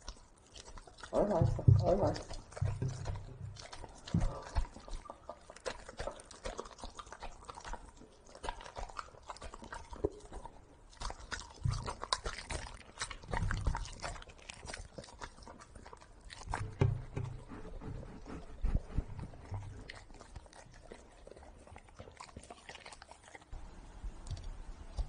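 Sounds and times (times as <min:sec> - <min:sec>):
dog chewing wet smacking: 0:00.0 - 0:23.6.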